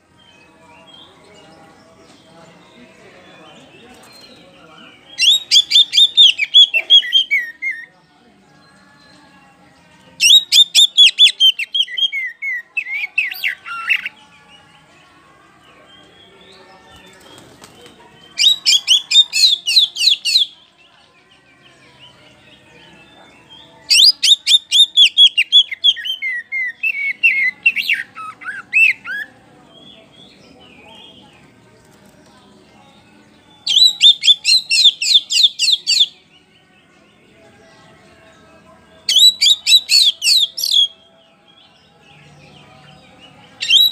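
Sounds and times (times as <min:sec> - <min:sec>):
bird singing: 0:00.0 - 0:43.9.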